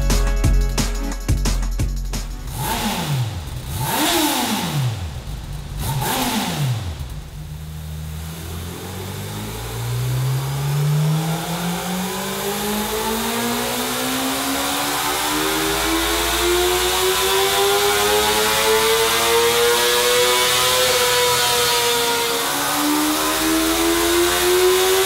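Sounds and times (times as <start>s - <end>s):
motorcycle engine revving: 2.2s - 25.0s.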